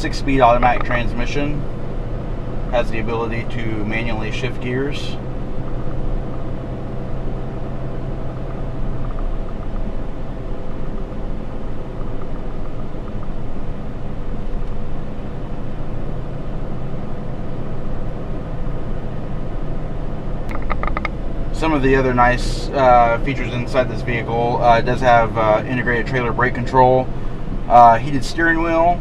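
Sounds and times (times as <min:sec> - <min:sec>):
diesel engine running: 0:00.0 - 0:29.0
low hum: 0:00.0 - 0:29.0
road noise: 0:00.0 - 0:29.0.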